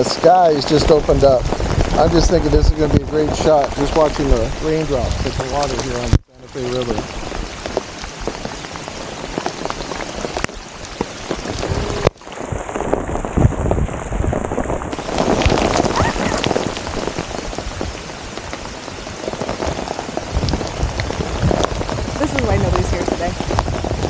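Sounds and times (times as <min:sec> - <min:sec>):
heavy rain on water: 0:00.0 - 0:24.0.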